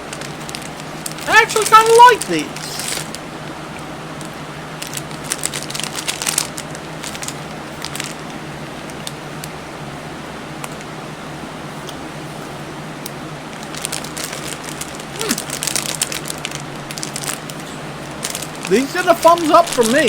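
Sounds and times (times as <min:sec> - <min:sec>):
crisp crunches of chewing: 0:00.0 - 0:01.7, 0:02.5 - 0:09.6, 0:11.8 - 0:20.0
faint crackles: 0:00.0 - 0:09.6, 0:11.7 - 0:20.0
steady low hum: 0:00.0 - 0:20.0.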